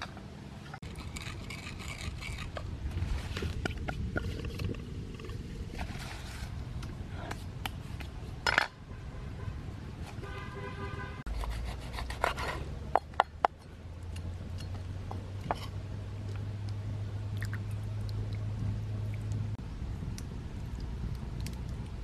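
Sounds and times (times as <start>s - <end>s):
background noise: 0.0s - 22.0s.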